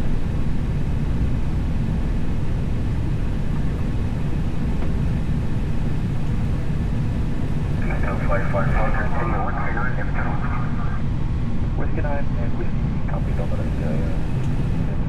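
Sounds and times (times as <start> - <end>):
low rumble of idling airliner: 0.0 - 15.0.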